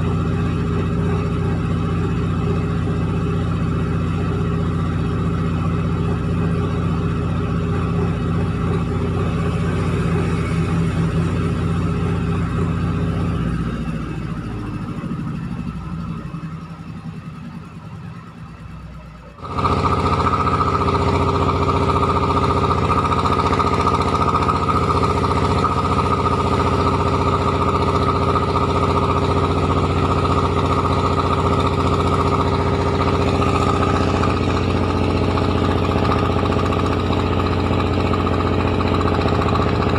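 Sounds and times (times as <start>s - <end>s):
high machine whine: 0.0s - 39.9s
milling machine drone: 0.0s - 39.9s.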